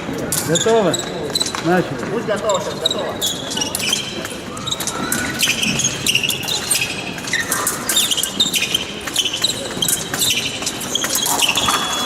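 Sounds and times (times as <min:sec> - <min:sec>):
shoes squeaking and stamping: 0:00.0 - 0:12.0.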